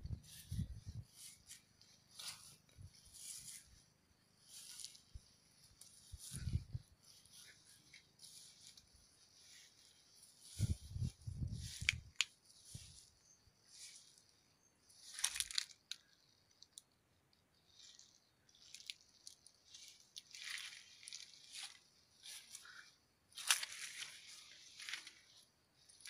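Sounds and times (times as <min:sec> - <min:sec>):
leaves and twigs rustling: 0:00.0 - 0:16.9, 0:17.6 - 0:26.0.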